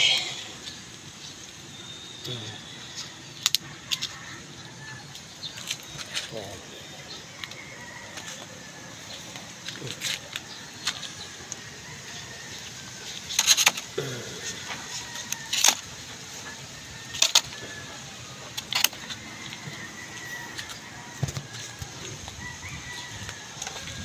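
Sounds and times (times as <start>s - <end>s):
rustles: 0.0s - 24.0s.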